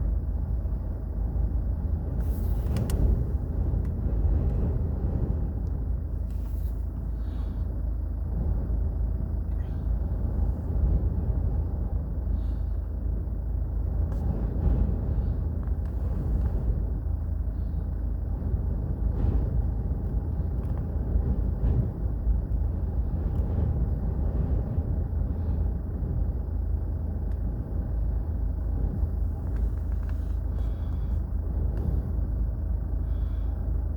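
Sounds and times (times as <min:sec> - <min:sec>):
storm winds gusting: 0:00.1 - 0:06.2, 0:08.2 - 0:33.9.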